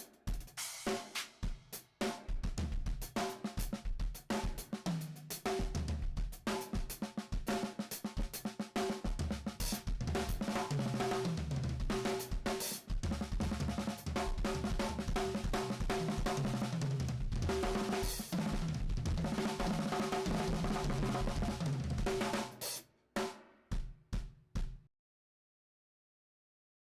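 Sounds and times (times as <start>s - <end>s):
drum kit played fast: 0.0s - 24.9s.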